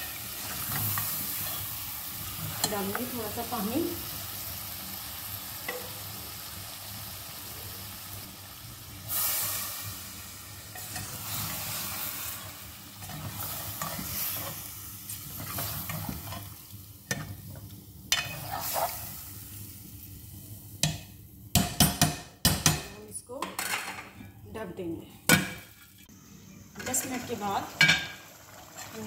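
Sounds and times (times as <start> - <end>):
food sizzling in a pot: 0.0 - 21.8, 25.5 - 29.0.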